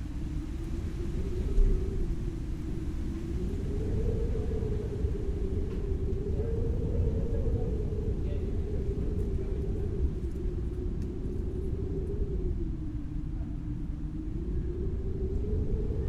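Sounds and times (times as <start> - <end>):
droning hum wavering in pitch: 0.0 - 16.0
low rumbling noise: 0.0 - 16.0.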